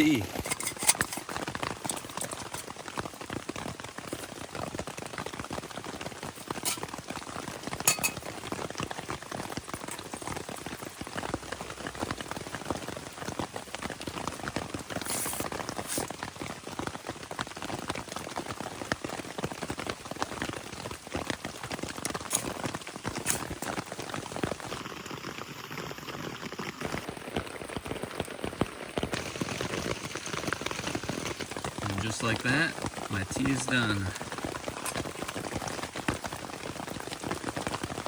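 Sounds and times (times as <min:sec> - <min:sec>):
hard rain pattering on tarp: 0:00.0 - 0:38.0.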